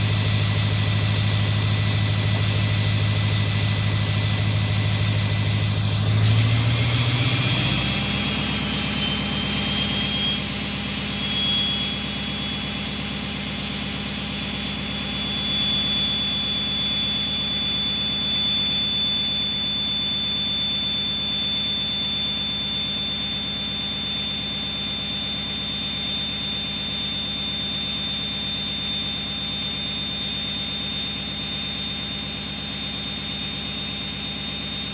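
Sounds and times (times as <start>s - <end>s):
turbo whistle: 0.0s - 34.9s.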